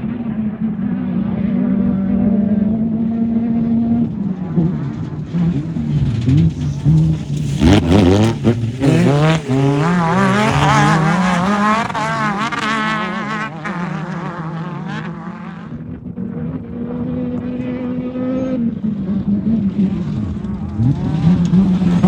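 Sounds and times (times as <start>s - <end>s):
race vehicle engine revving past: 0.6s - 22.0s.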